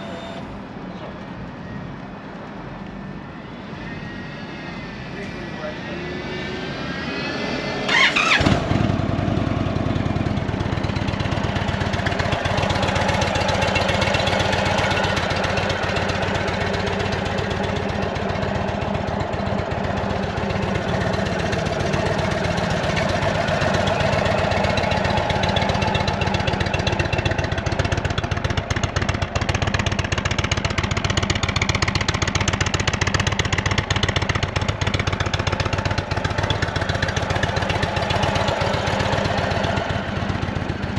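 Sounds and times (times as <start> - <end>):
motorcycle engine starting and idling: 7.9 - 40.9.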